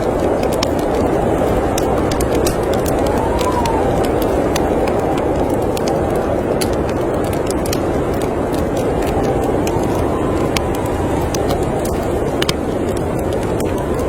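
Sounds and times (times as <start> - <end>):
rushing wind: 0.0 - 14.0
wood fire crackling: 0.0 - 14.0.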